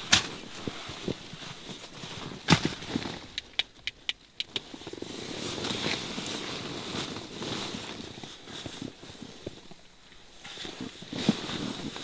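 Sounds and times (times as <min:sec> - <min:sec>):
fabric rustling on sleeping bag: 0:00.0 - 0:03.3, 0:04.7 - 0:12.0.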